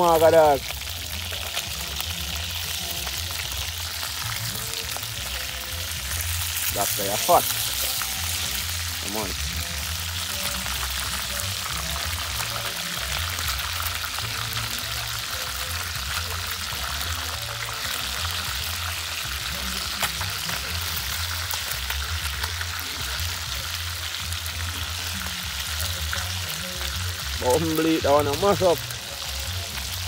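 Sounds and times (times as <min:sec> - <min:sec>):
lobster frying in oil: 0:00.0 - 0:30.0.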